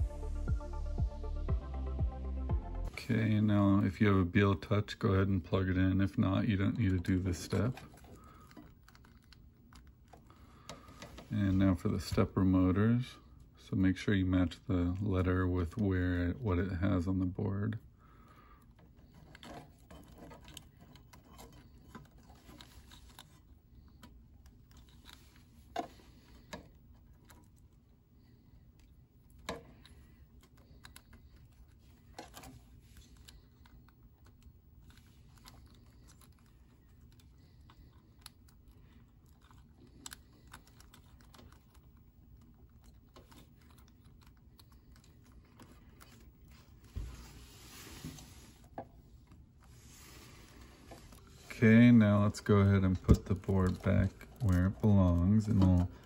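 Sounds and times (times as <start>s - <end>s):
wires rustling: 4.4s - 56.0s.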